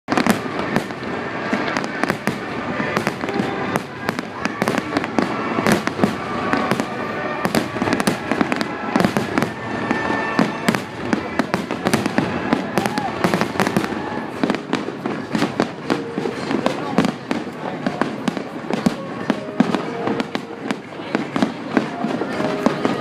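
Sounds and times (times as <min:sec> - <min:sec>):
fireworks bangs and crackles: 0:00.1 - 0:23.0.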